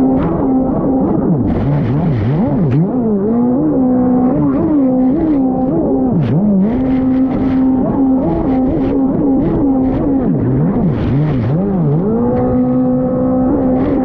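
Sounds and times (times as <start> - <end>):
jet ski engine running hard: 0.0 - 14.0.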